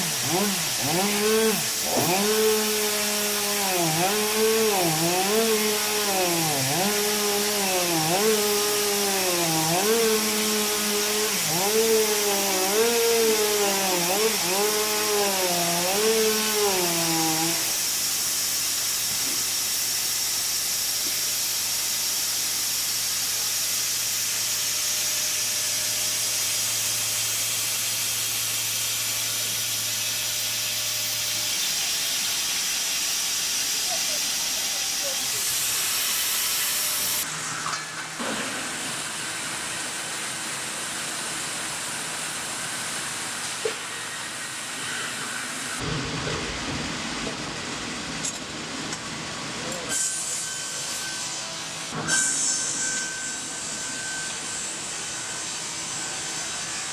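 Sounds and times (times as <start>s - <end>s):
motor saw cutting wood: 0.0s - 45.8s.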